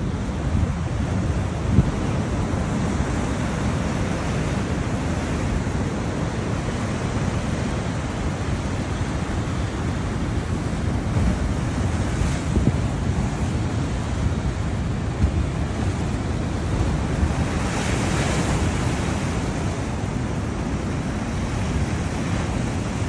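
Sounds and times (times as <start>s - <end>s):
surf breaking against seawall: 0.0s - 23.0s
wind rumbling on microphone: 0.0s - 23.0s.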